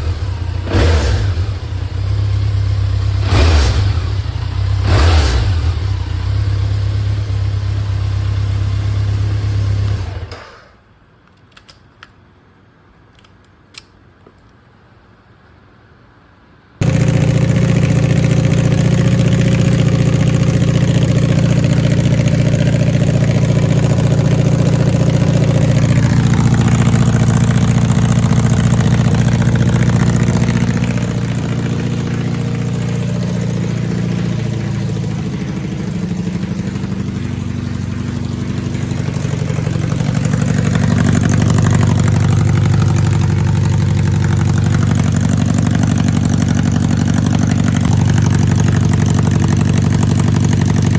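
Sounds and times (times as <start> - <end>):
motorcycle engine idling: 0.0 - 10.4, 16.8 - 50.9.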